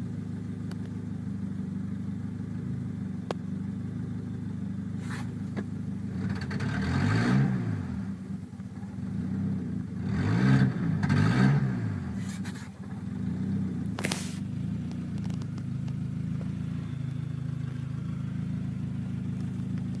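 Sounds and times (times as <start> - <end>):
engine running and revving: 0.7 - 20.0.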